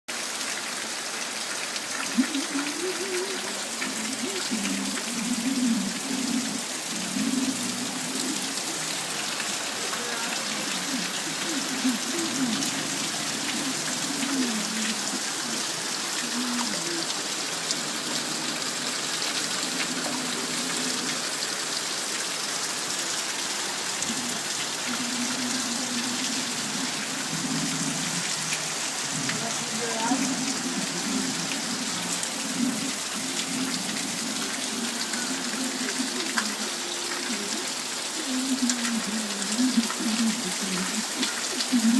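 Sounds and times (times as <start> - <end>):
heavy rain: 0.1 - 41.9
faint voices: 2.1 - 21.3, 23.4 - 41.9.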